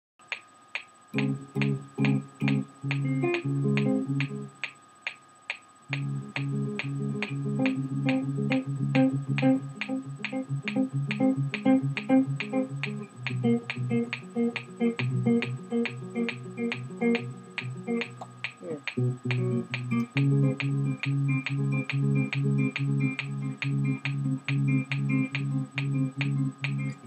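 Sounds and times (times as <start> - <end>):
metronome ticking: 0.2 - 27.0
electric guitar notes: 1.2 - 4.6, 5.9 - 27.0.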